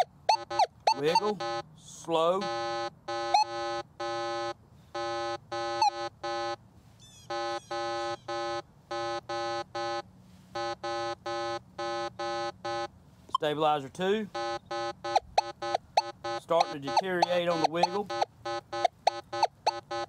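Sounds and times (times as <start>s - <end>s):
metal detector beeps: 0.0s - 6.6s, 7.3s - 13.6s, 14.3s - 20.0s.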